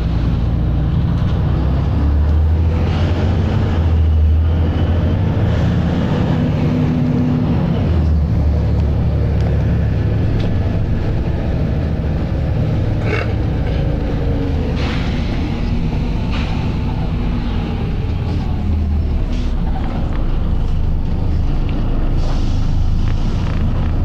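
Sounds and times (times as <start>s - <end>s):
bus engine humming: 0.0s - 24.0s.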